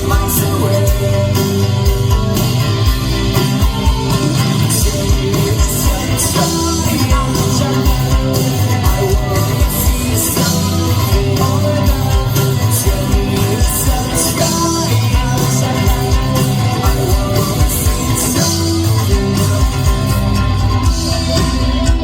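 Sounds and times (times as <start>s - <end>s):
electric guitar: 0.0s - 22.0s
person singing: 0.0s - 22.0s
steady drum beat: 0.0s - 22.0s.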